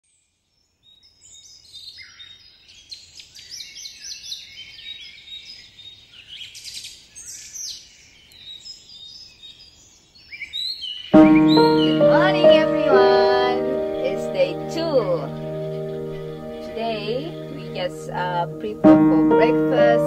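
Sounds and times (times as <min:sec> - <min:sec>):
many birds chirping: 0:01.0 - 0:18.6.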